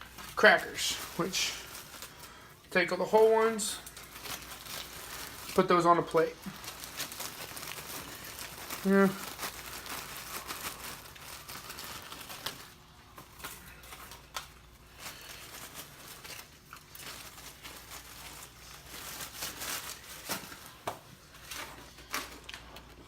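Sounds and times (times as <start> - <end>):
crinkling packaging: 0.0 - 23.0.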